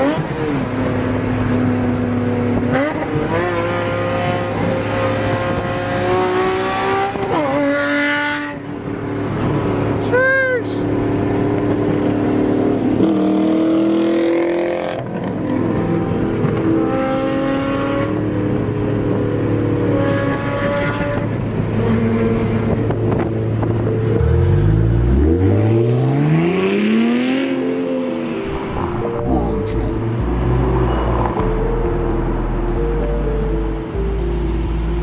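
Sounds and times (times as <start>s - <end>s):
car engine accelerating hard: 0.0s - 10.1s, 10.8s - 29.0s
sports car engines revving: 0.0s - 10.2s, 10.8s - 35.0s.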